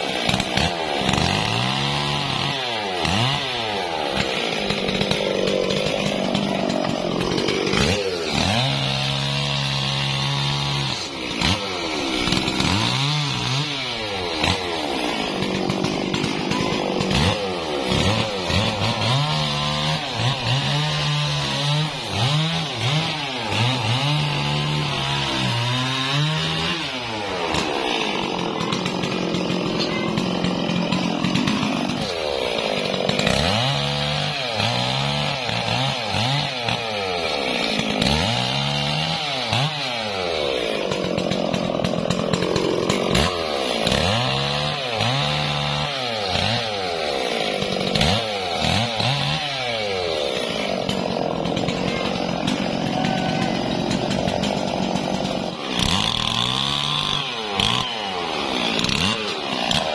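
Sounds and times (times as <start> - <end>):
chainsaw revving while cutting log: 0.0 - 59.9.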